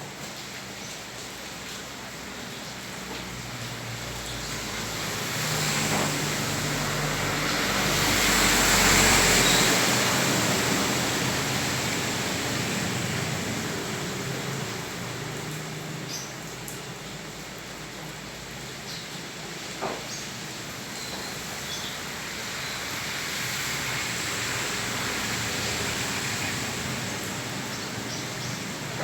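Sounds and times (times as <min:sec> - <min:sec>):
steady rain: 0:00.0 - 0:29.0
tyres hissing through water: 0:00.0 - 0:29.0.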